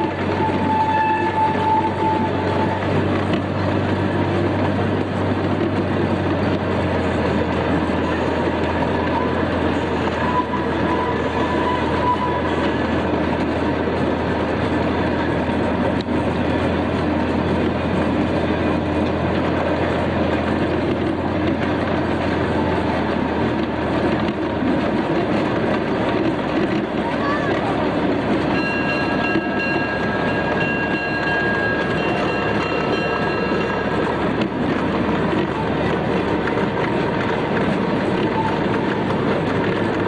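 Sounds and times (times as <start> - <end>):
ride train rumbling on track: 0.0 - 40.0.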